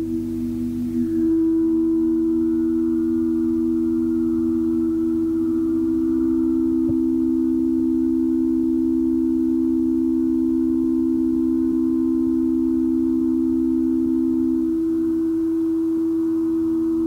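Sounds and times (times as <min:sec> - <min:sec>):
ambient drone of held tones: 0:00.0 - 0:17.0.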